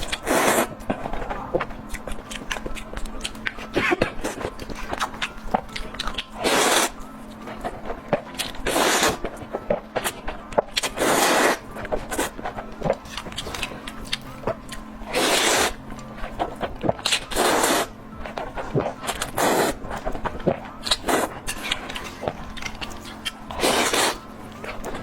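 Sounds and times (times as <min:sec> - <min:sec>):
wet chewing clicks: 0:00.0 - 0:25.0.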